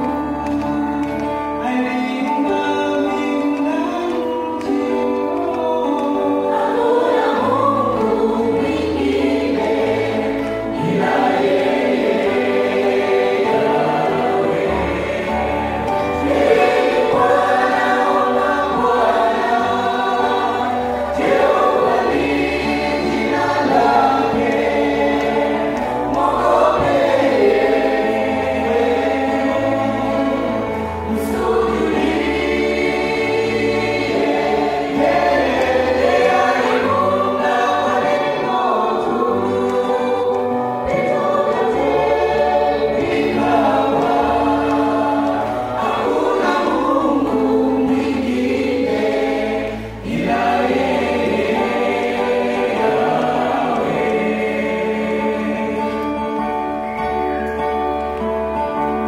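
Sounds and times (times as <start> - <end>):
choir singing gospel through microphones: 0.0 - 59.0.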